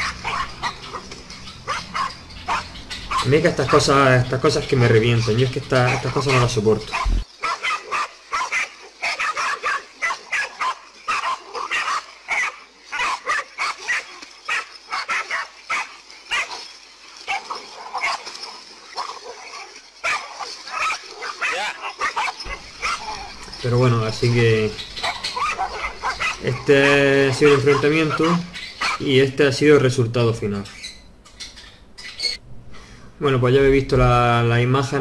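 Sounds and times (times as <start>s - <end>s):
dogs barking and yelping: 0.0s - 29.4s, 30.8s - 32.4s.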